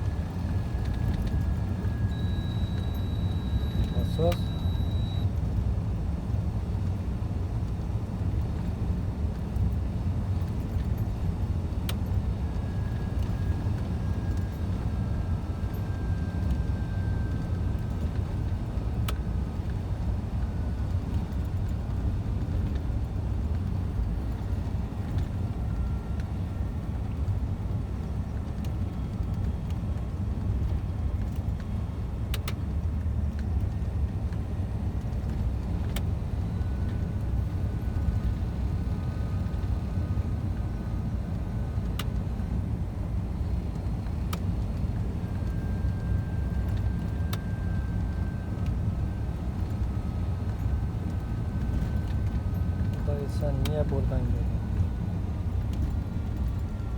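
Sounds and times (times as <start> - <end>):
truck engine and road rumble: 0.0 - 56.9.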